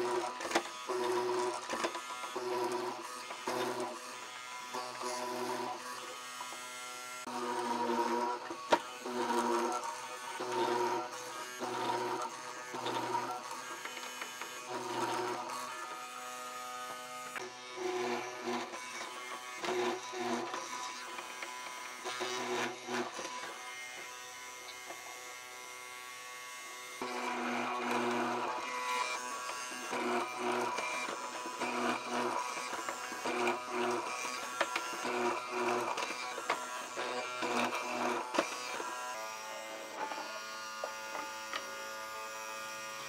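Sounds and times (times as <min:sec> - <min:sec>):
mortising machine cutting wood: 0:00.0 - 0:43.0.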